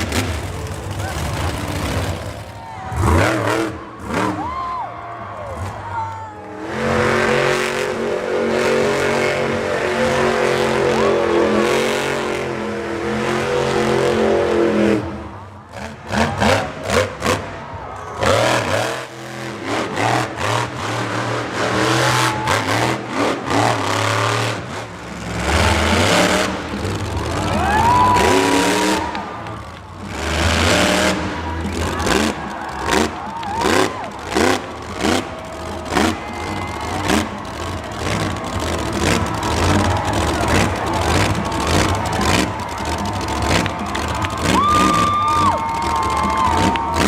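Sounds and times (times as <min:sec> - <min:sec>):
truck engine revving: 0:00.0 - 0:04.5, 0:06.4 - 0:47.0.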